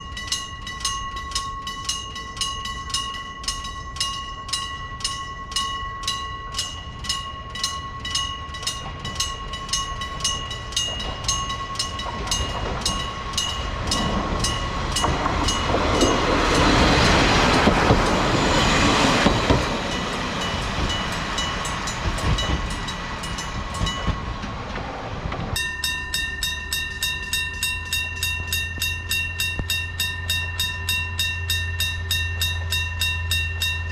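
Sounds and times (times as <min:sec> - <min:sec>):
faster crossing bell: 0:00.0 - 0:24.7, 0:25.5 - 0:33.9
level-crossing bell slow strokes: 0:00.0 - 0:24.7, 0:25.6 - 0:33.9
diesel railcar engine and wheels: 0:00.0 - 0:33.9.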